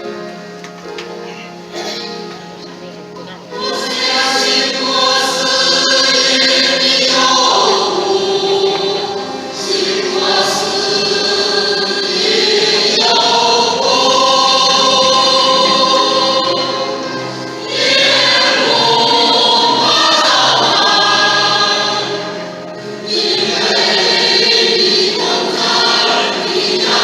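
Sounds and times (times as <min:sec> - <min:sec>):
group singing a hymn: 0:03.5 - 0:27.0.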